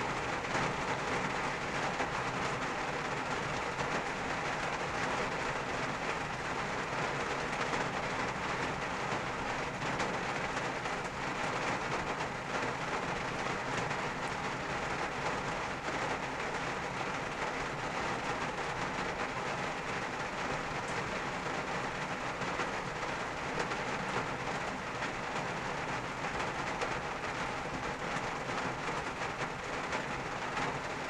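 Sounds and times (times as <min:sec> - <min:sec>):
rain on car roof: 0:00.0 - 0:31.0.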